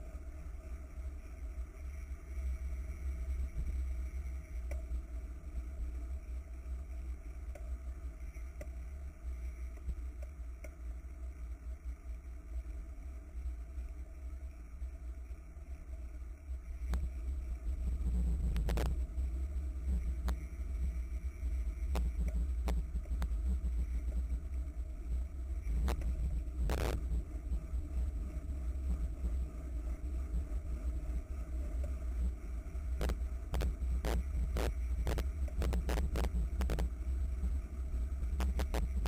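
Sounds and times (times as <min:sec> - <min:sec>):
road and tyre noise: 0:00.0 - 0:39.0.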